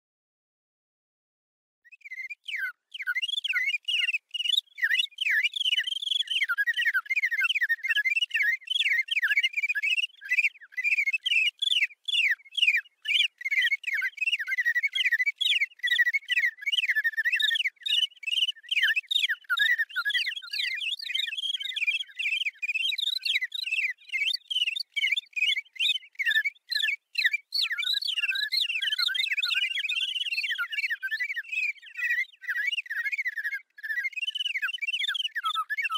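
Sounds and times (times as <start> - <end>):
songbirds chirping: 1.9 - 35.9.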